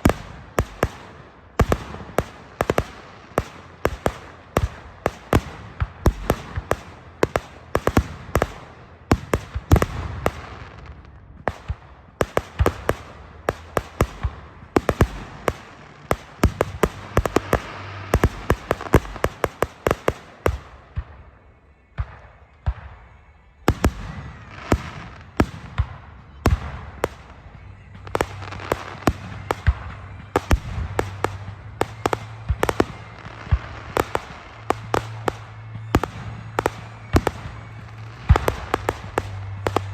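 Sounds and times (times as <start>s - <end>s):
fireworks popping and banging: 0.0s - 39.9s.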